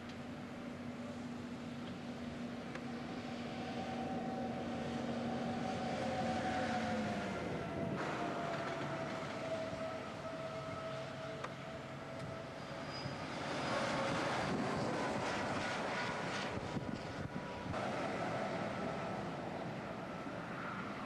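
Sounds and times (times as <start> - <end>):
diesel lorry engine drone: 0.0 - 21.0
truck tyres and wind rushing: 0.0 - 21.0.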